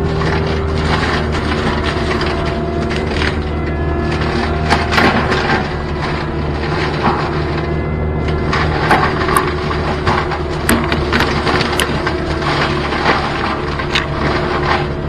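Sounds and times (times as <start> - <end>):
engine and hydraulic drone: 0.0 - 15.0
forestry mulcher running: 0.0 - 15.0
wood cracking and splintering: 0.0 - 15.0.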